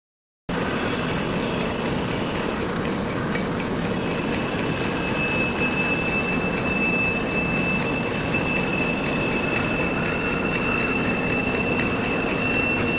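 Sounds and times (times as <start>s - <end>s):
high steady whine: 0.5s - 12.9s
lathe machining noise: 0.5s - 12.9s.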